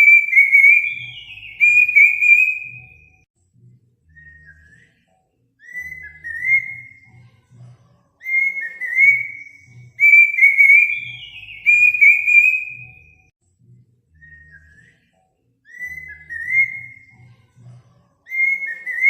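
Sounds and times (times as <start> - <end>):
bird whistling song: 0.0 - 3.3, 4.1 - 7.3, 8.2 - 13.3, 14.1 - 17.4, 18.3 - 19.0.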